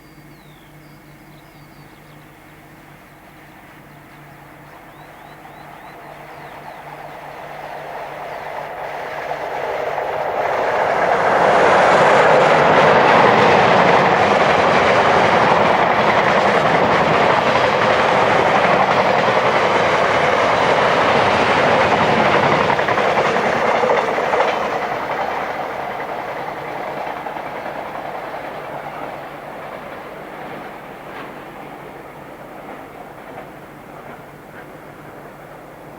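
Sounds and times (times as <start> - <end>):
train passing at speed: 0.0 - 35.9.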